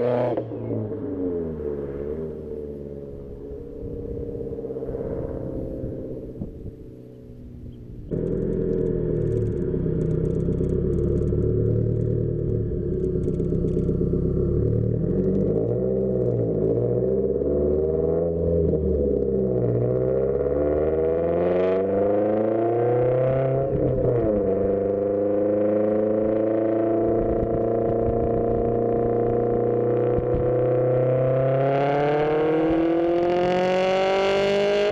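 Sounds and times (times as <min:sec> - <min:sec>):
car exhaust accelerating: 0:00.0 - 0:34.9.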